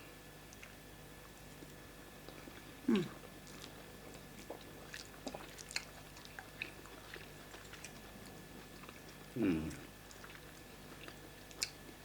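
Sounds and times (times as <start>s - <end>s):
chewing and lip smacks: 0.5s - 12.0s.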